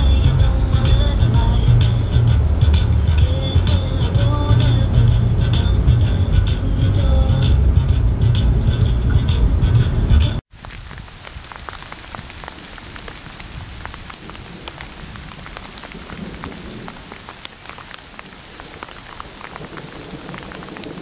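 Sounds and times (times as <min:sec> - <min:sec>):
rain falling: 0:00.0 - 0:09.3, 0:10.4 - 0:21.0.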